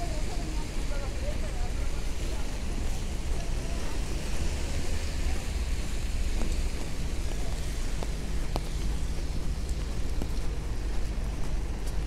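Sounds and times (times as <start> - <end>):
low rumble of city traffic: 0.0 - 12.0
steady rain hiss: 0.0 - 12.0.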